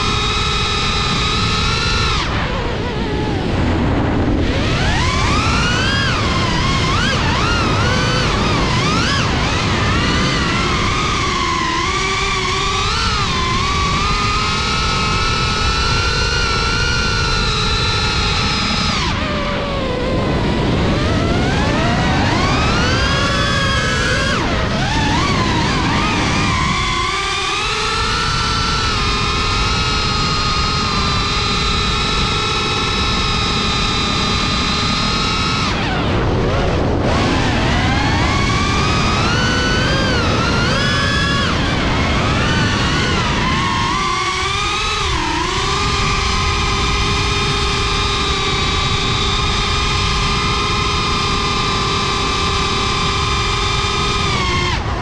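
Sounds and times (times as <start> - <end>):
drone motors whining: 0.0 - 55.0
wind and propeller rush: 0.0 - 55.0.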